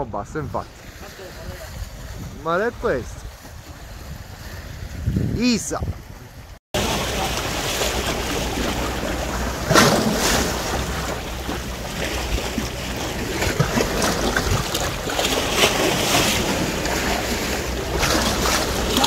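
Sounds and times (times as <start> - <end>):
wind buffeting microphone: 0.0 - 19.0
sea waves washing on rocks: 0.6 - 19.0.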